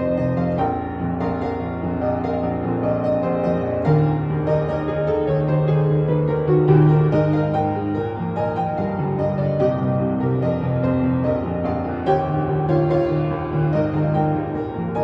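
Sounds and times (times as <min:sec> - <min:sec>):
solo piano playing: 0:00.0 - 0:15.0.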